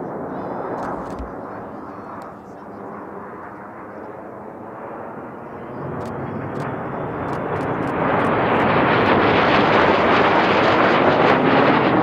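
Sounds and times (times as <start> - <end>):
approaching aircraft engine: 0.1 - 12.0.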